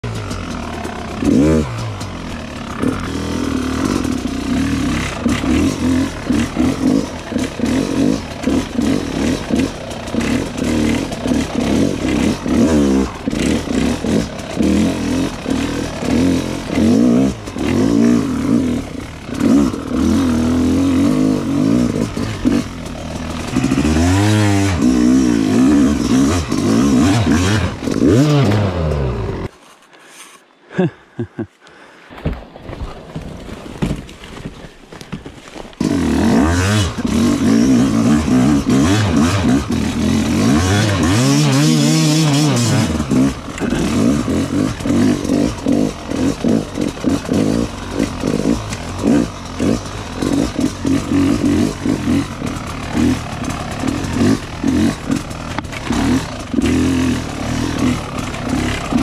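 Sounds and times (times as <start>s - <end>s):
dirt bike engine lugging: 0.0s - 30.0s, 32.0s - 59.0s.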